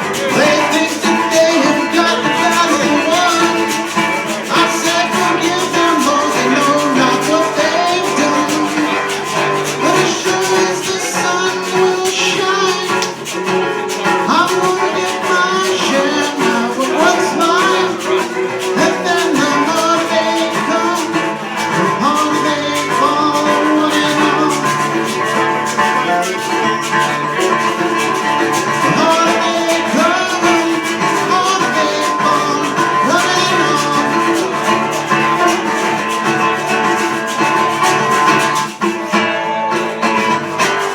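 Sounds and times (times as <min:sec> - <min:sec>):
strummed acoustic guitar: 0:00.0 - 0:40.9.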